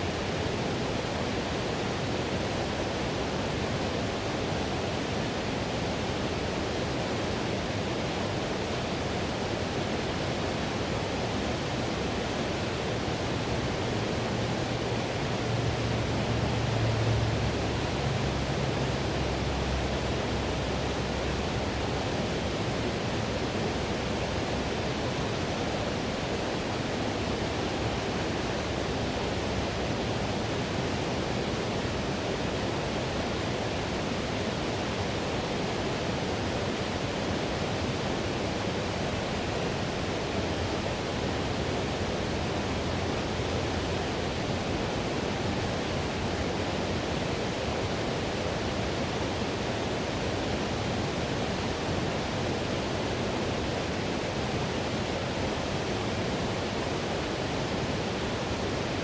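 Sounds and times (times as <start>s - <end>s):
whitewater river rushing: 0.0s - 59.0s.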